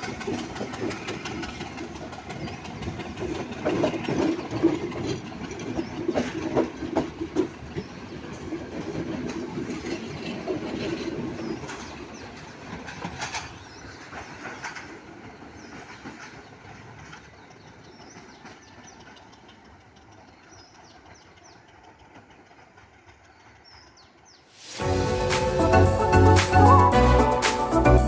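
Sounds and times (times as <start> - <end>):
wheels clicking over rail joints: 0.0 - 26.9
train running on rails: 0.0 - 28.0.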